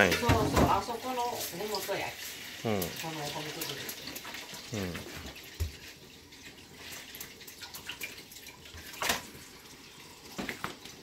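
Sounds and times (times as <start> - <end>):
water dripping and splashing: 0.0 - 11.0.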